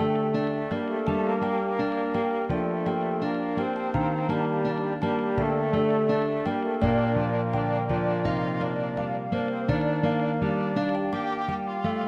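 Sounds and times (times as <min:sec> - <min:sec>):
melodic instrumental music: 0:00.0 - 0:12.0.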